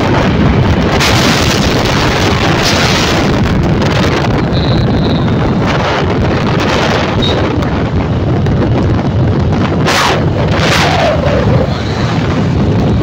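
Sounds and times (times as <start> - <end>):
motorcycle engine: 0.0 - 13.0
wind buffeting microphone: 0.0 - 13.0.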